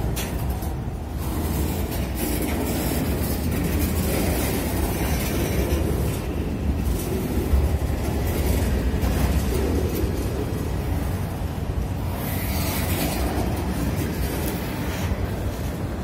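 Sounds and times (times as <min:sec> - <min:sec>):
freight train wheels rumbling on rails: 0:00.0 - 0:16.0.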